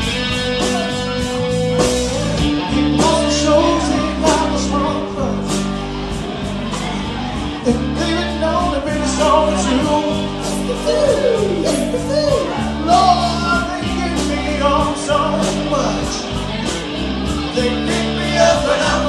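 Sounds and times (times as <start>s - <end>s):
bass and drums: 0.0s - 19.0s
electric guitar with bends: 0.0s - 19.0s.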